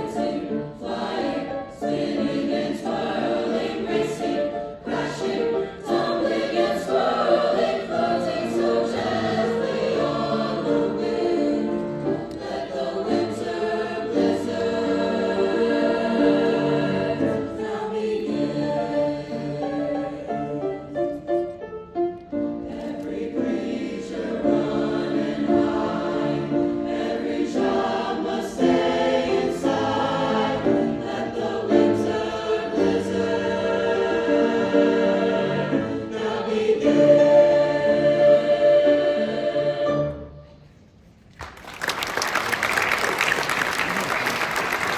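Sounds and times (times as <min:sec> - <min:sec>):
choir singing: 0:00.0 - 0:21.6, 0:22.3 - 0:40.8.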